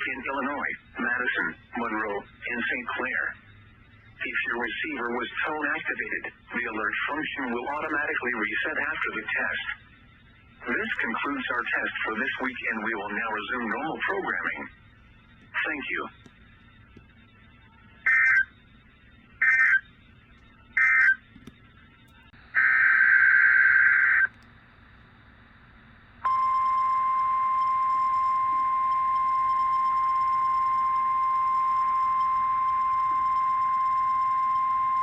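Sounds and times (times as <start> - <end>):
steady warning alarm tone: 0.0 - 35.0.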